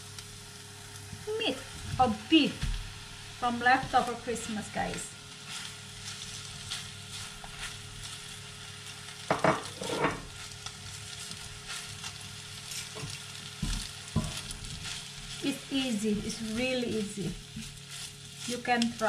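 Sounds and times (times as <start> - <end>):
food sizzling in frying pan: 0.0 - 19.0
spatula stirring in pan: 3.7 - 19.0.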